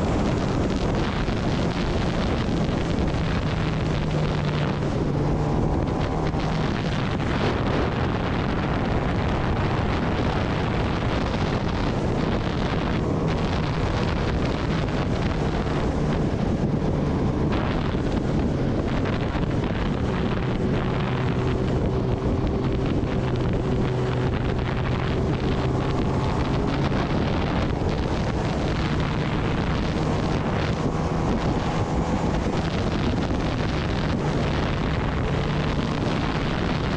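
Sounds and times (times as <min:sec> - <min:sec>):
motorcycle engine cruising: 0:00.0 - 0:36.9
wind noise on microphone: 0:00.0 - 0:36.9.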